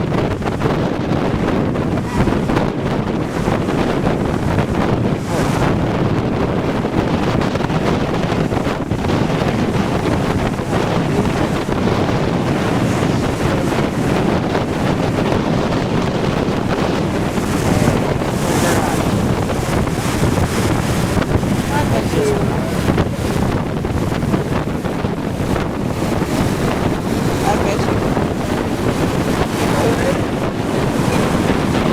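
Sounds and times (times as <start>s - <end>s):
storm surf breaking: 0.0s - 31.9s
wind buffeting microphone: 0.0s - 31.9s.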